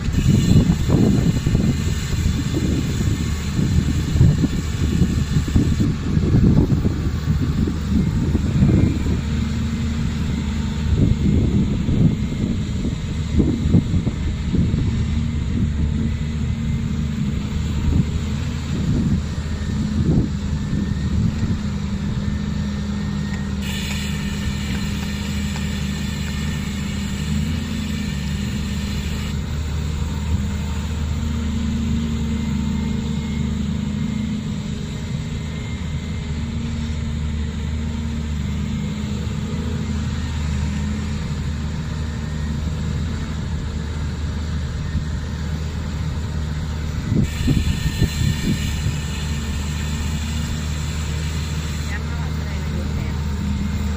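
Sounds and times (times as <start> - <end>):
excavator diesel engine running: 0.0 - 53.9
high whine: 0.0 - 53.9.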